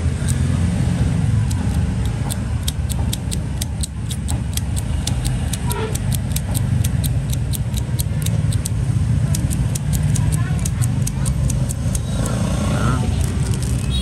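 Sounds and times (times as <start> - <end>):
low rumble of road traffic: 0.0 - 14.0
rapid even ticking: 0.0 - 14.0.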